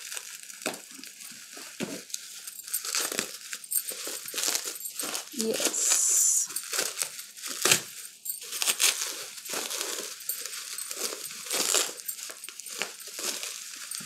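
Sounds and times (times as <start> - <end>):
bubble wrap crinkling: 0.0 - 14.0.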